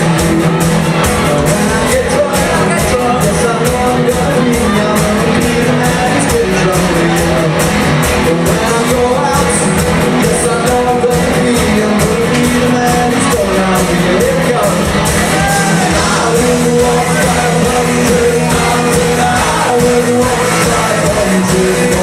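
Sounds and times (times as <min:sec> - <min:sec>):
person singing: 0:00.0 - 0:22.0
rock band playing: 0:00.0 - 0:22.0.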